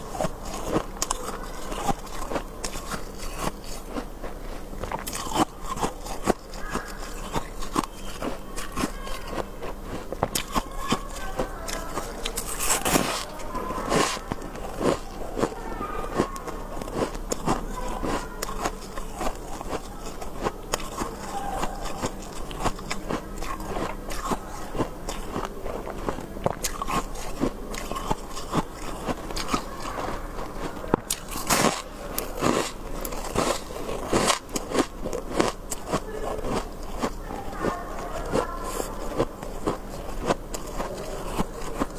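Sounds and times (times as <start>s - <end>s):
chewing crunchy frost: 0.0s - 41.9s.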